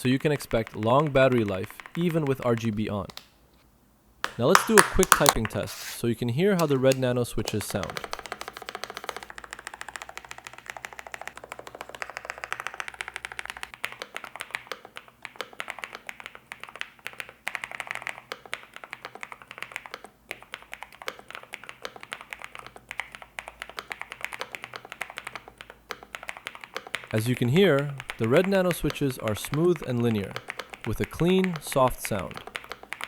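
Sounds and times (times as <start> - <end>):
fast mechanical keyboard typing: 0.0 - 3.2, 4.3 - 5.5, 6.6 - 33.0.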